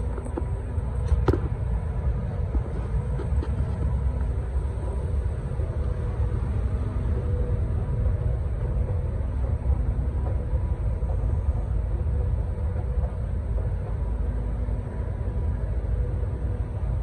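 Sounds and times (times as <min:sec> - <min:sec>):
escalator rumbling and humming: 0:00.0 - 0:17.0.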